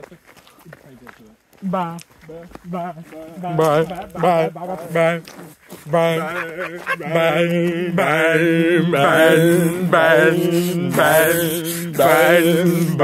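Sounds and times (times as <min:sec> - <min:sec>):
young man chanting wordless notes: 0:01.6 - 0:13.0.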